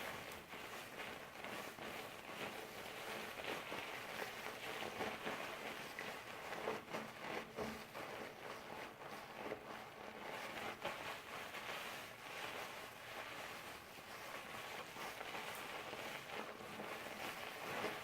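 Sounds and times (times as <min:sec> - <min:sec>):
wet hair rubbing and squishing: 0:00.0 - 0:18.0.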